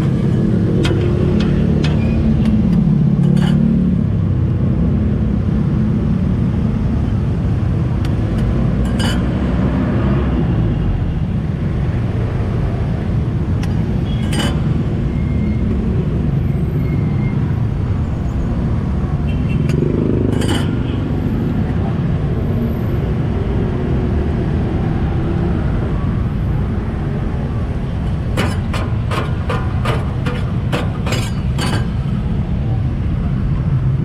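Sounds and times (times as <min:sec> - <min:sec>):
street traffic rumble: 0:00.0 - 0:34.0.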